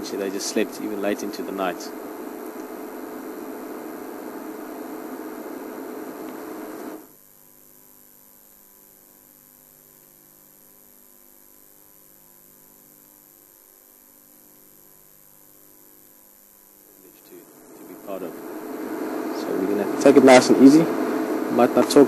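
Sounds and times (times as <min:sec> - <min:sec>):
faint electrical hum: 0:00.0 - 0:22.0.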